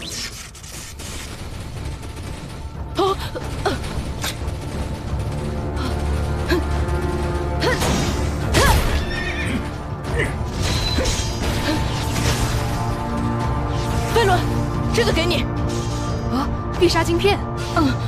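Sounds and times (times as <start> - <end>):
dramatic action music: 0.0 - 18.0.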